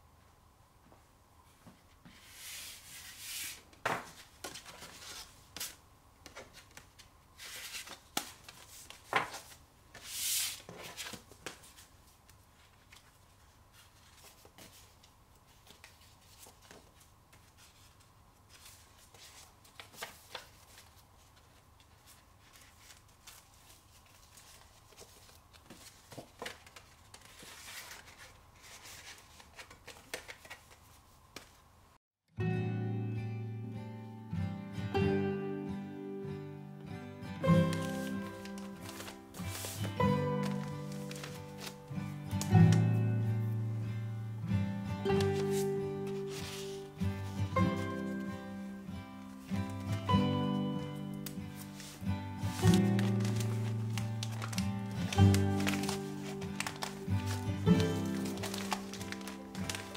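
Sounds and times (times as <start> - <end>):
paper shuffling and rustling: 1.5 - 31.7, 37.5 - 43.8, 45.0 - 59.9.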